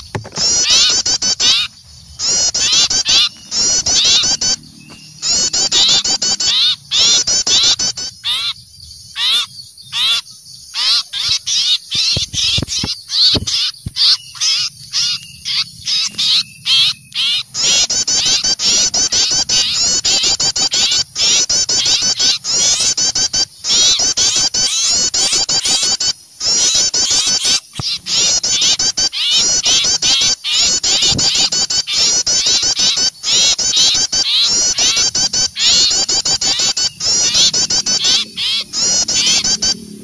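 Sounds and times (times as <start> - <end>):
songbirds alarm chirps: 0.0 - 40.0.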